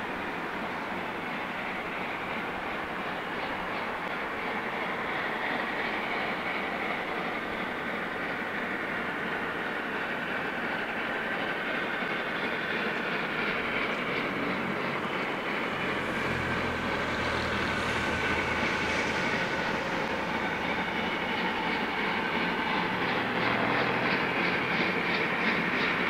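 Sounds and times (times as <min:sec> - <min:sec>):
distant steam locomotive exhaust beats: 0:00.0 - 0:26.0.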